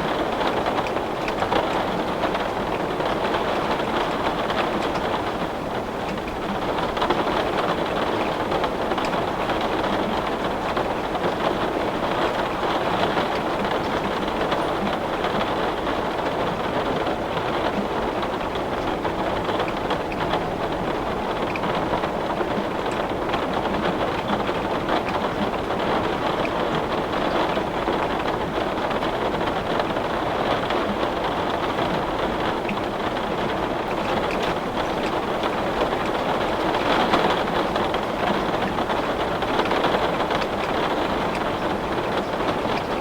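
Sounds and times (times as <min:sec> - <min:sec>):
heavy rain on window pane: 0:00.0 - 0:43.0.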